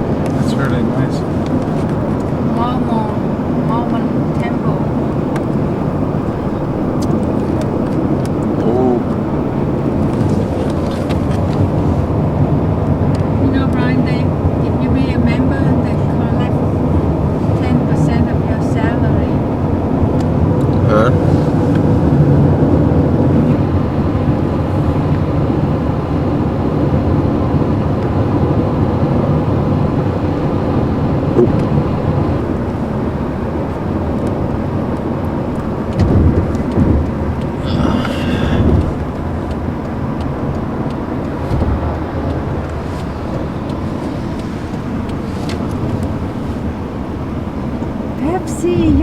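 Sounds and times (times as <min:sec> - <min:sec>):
moving vehicle rumble: 0:00.0 - 0:49.0.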